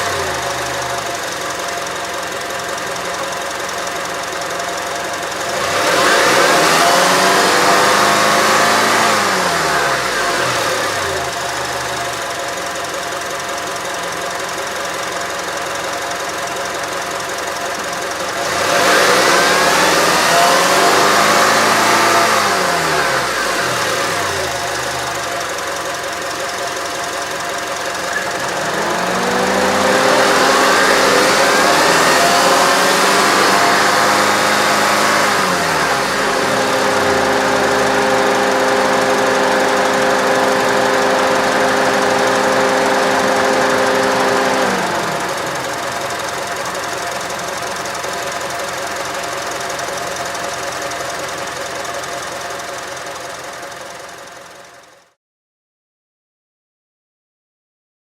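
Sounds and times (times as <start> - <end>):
car engine idling and revving: 0.0 - 55.2.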